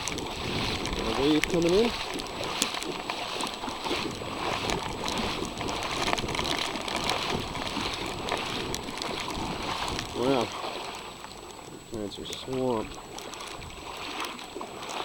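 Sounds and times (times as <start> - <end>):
floodwater washing and splashing: 0.0 - 15.0.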